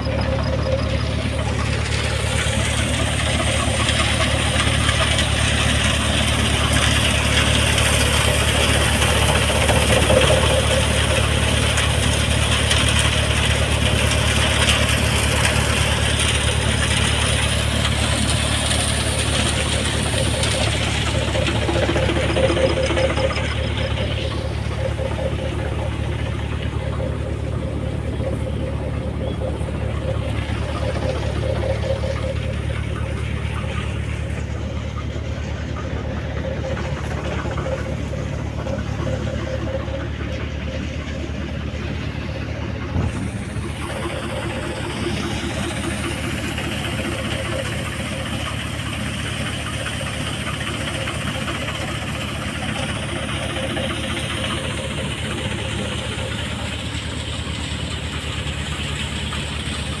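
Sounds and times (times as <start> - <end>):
engine running steadily: 0.0 - 60.0.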